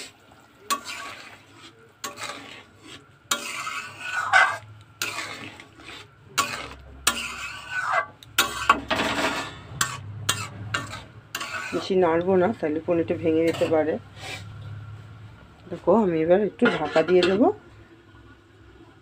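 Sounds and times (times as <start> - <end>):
metal ladle scraping pot: 0.0 - 14.6, 16.6 - 17.6.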